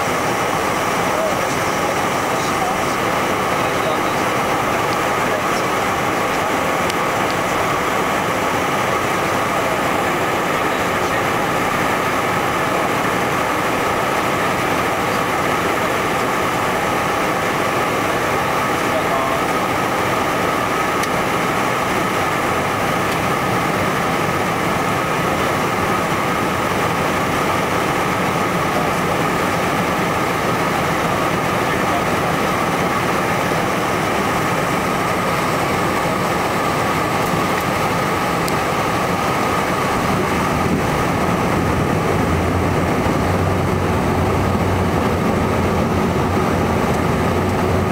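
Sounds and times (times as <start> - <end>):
airflow rush: 0.0 - 47.9
jet engine drone in cabin: 0.0 - 47.9.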